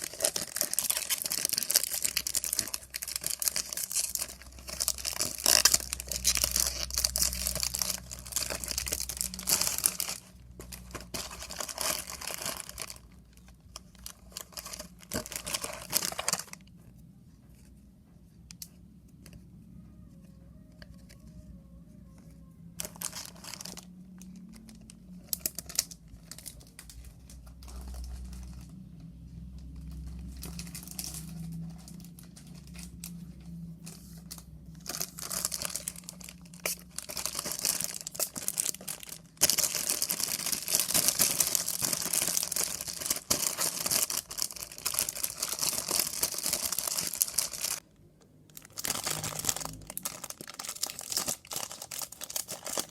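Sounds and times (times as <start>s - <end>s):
plastic wrapper crinkling and tearing: 0.0s - 16.8s, 22.6s - 47.8s, 48.5s - 52.9s.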